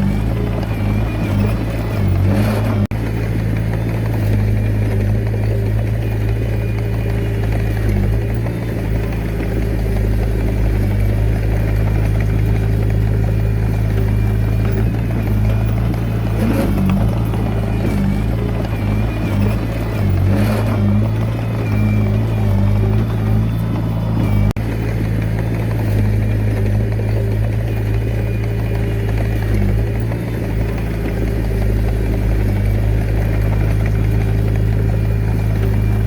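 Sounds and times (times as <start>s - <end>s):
bulldozer diesel engine humming: 0.0s - 36.0s.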